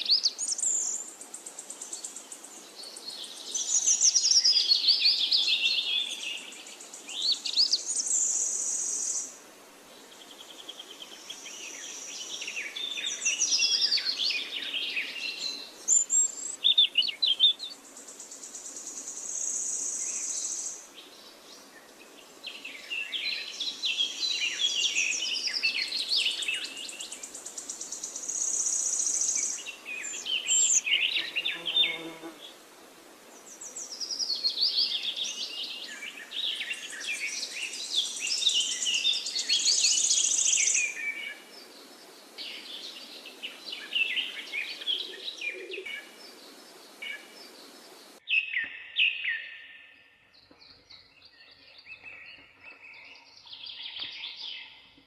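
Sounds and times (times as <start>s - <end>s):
background hiss: 0.0s - 48.4s
songbirds singing: 0.0s - 55.0s.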